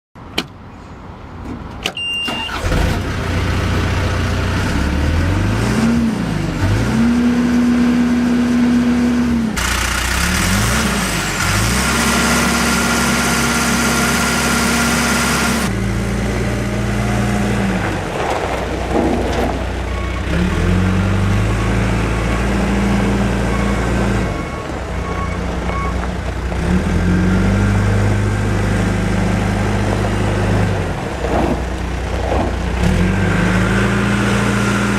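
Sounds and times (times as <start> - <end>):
diesel engine revving: 2.3 - 34.9.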